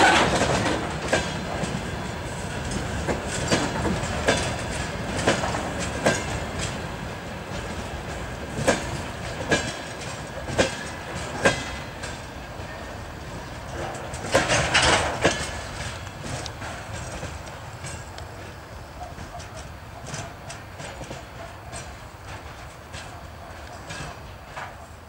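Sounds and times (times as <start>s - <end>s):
train rolling rumble: 0.0s - 25.0s
train wheels clicking on rail joints: 0.0s - 25.0s.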